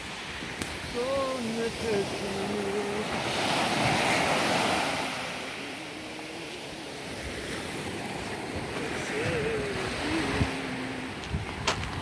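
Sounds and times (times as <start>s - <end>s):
small waves washing onto sand: 0.0s - 12.0s.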